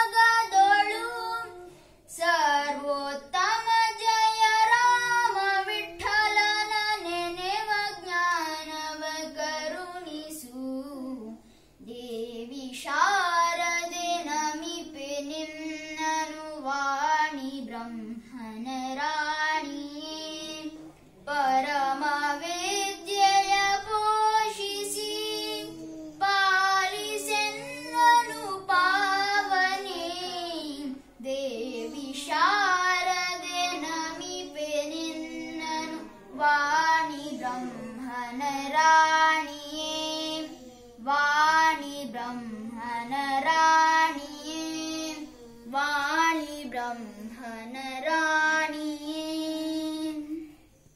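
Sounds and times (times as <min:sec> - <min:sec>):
child singing: 0:00.0 - 0:50.7.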